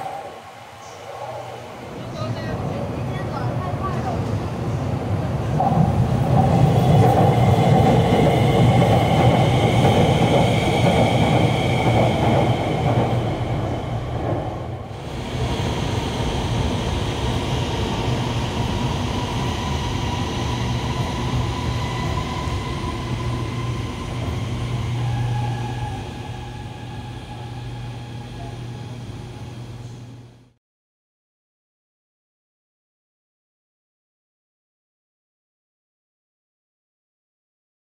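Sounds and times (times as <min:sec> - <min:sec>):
train wheel rumble: 0:00.0 - 0:30.5.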